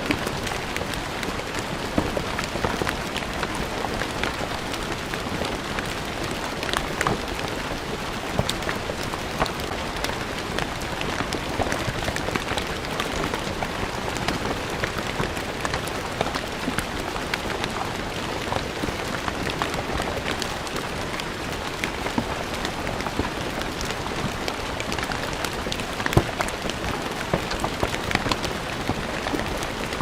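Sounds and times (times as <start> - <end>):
rain on stone paving: 0.0 - 30.0.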